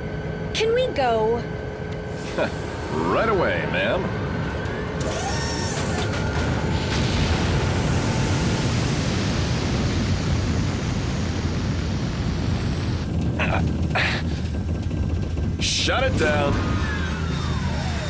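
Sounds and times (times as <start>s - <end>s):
spaceship engine rushing rumble: 1.4s - 18.0s.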